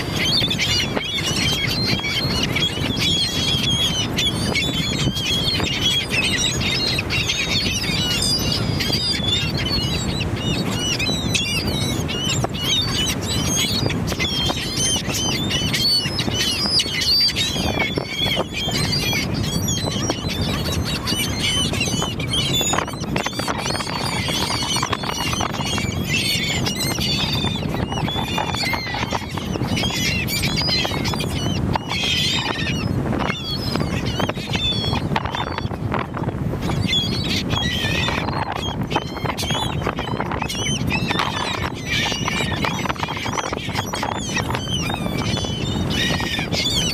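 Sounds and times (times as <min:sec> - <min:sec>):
seabirds squawking: 0:00.0 - 0:46.9.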